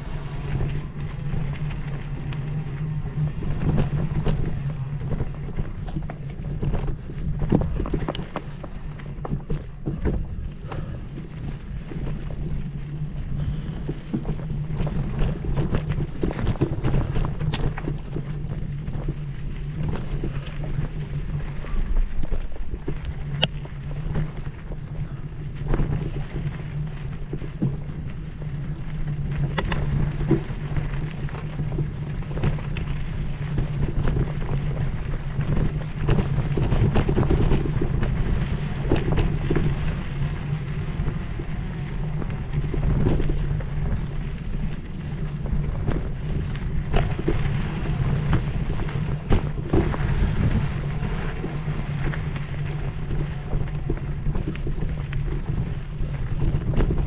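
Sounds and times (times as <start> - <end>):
steady low hum: 0.0 - 57.0
wind buffeting microphone: 0.0 - 57.0.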